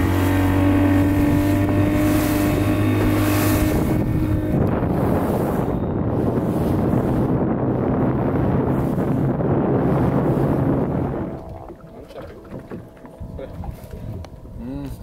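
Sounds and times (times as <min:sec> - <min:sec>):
boat motor running: 0:00.0 - 0:15.0
wind buffeting microphone: 0:00.0 - 0:15.0.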